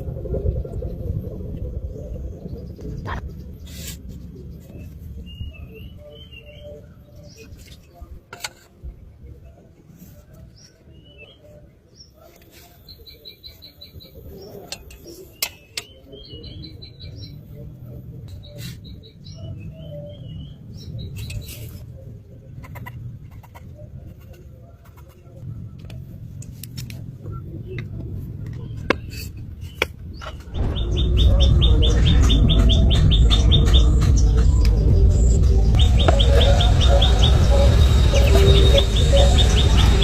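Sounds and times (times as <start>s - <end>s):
steady low rumble: 0.0s - 10.4s, 16.0s - 40.0s
birds chirping and trilling: 0.0s - 25.5s, 27.4s - 40.0s.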